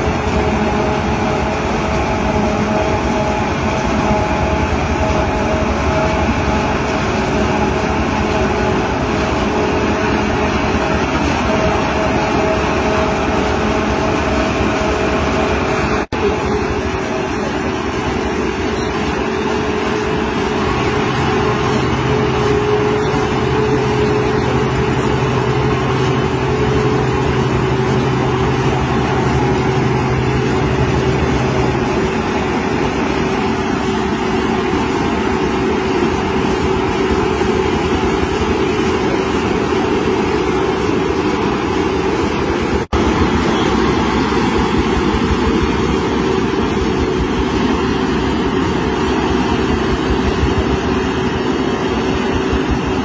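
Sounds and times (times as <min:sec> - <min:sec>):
constant machine whine: 0:00.0 - 0:53.0
harvester machine noise: 0:00.0 - 0:53.0
low hum: 0:00.0 - 0:53.0.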